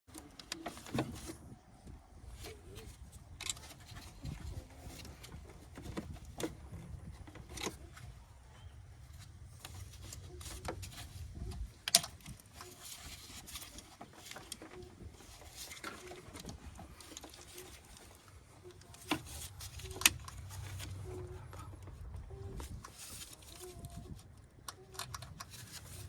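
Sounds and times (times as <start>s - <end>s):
hand tools and parts clicking: 2.4s - 8.2s, 9.1s - 26.0s.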